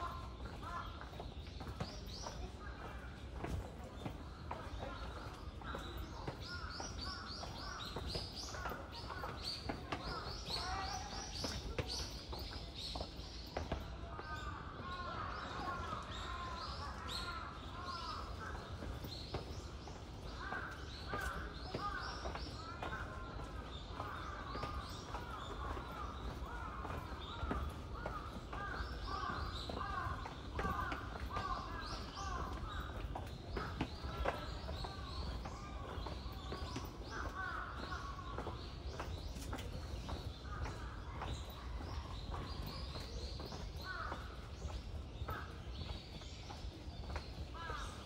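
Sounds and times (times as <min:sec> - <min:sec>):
birds calling: 0:00.0 - 0:48.0
outdoor background noise: 0:00.0 - 0:48.0.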